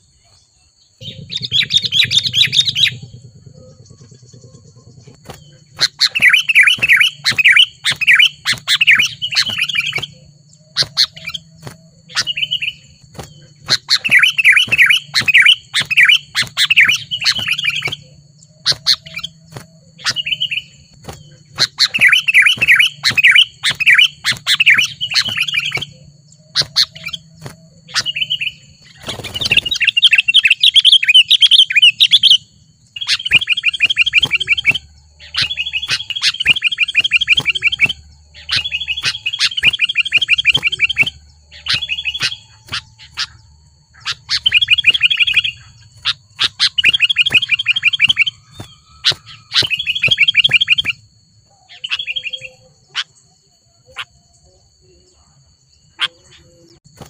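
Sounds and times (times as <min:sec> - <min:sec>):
bird singing chattering phrases: 0:00.0 - 0:57.0
bird single calls: 0:00.0 - 0:57.0.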